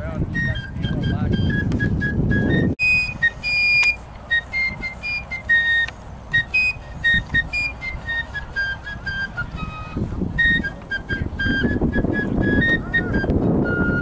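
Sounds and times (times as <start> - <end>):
fife playing marching tune: 0.3 - 14.0.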